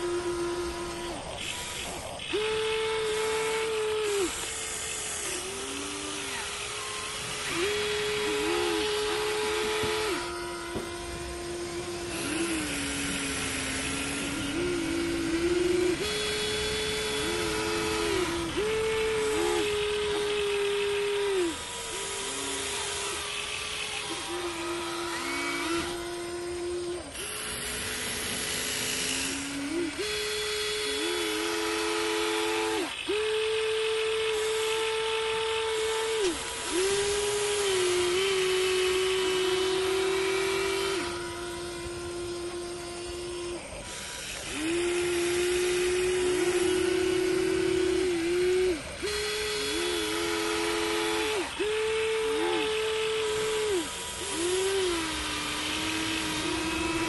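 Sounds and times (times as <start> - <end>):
electric motors whining: 0.0 - 57.0
gritty gear noise: 0.0 - 57.0.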